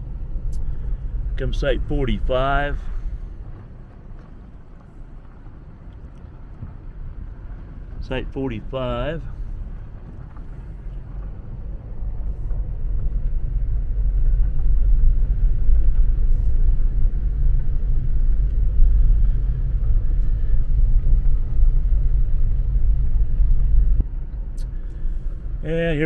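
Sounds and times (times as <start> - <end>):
tyres rumbling on gravel road: 0.0 - 26.0.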